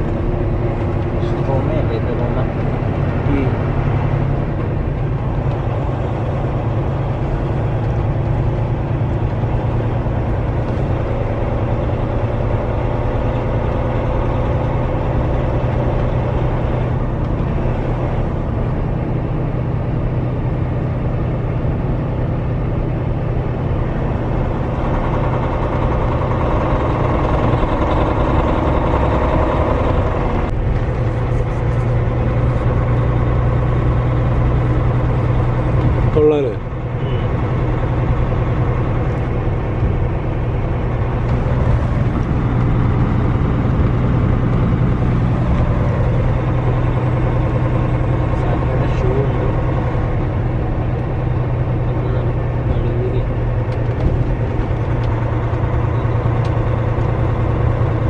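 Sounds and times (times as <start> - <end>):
road noise: 0.0 - 58.0
truck diesel engine drone: 0.0 - 58.0.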